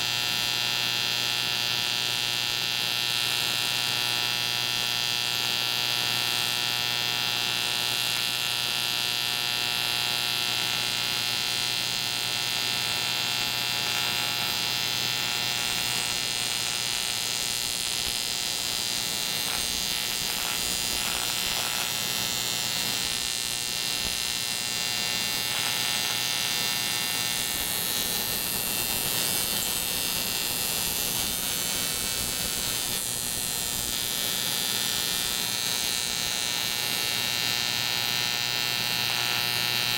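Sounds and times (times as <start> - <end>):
welding arc buzzing: 0.0 - 39.9.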